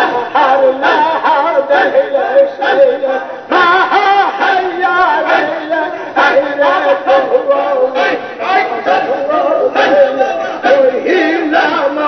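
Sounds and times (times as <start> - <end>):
crowd of men chanting: 0.0 - 12.0.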